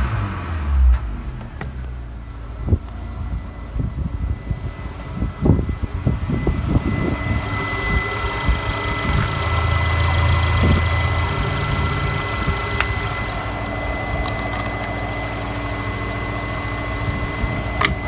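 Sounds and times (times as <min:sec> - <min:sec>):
petrol engine starting and idling: 0:00.0 - 0:18.0
thin constant whine: 0:02.1 - 0:18.0.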